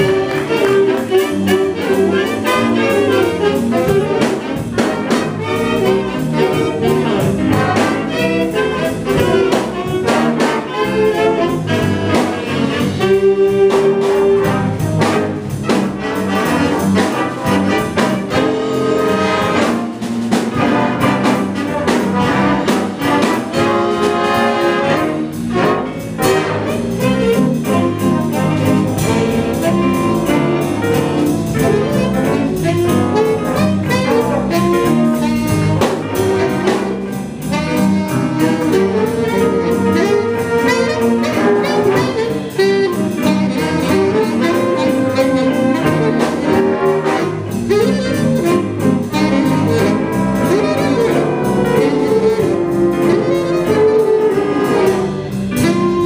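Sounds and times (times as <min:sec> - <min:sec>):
jazz band playing held chords: 0:00.0 - 0:56.0.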